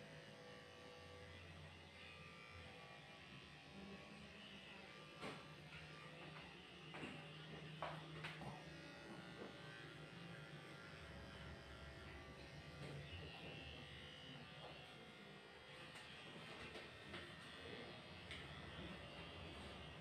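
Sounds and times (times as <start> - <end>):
electric clippers buzzing: 0.0 - 20.0.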